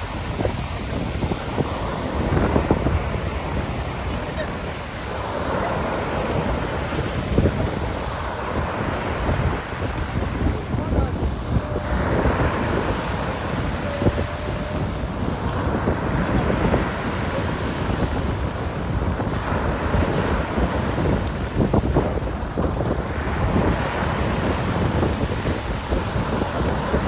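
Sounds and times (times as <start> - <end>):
surf washing ashore: 0.0 - 27.0
wind buffeting microphone: 0.0 - 27.0.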